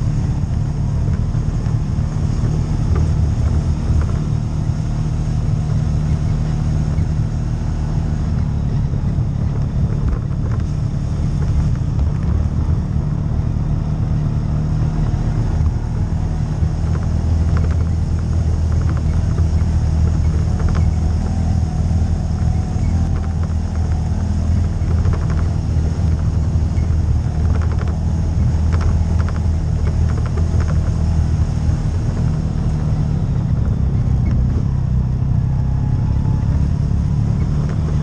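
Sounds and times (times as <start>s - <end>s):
tyres rumbling on gravel: 0.0s - 38.0s
vehicle engine running: 0.0s - 38.0s.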